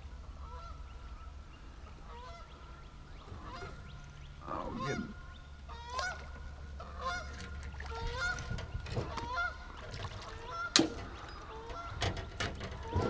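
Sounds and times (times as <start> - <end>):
geese honking: 0.4 - 0.8, 2.0 - 12.2.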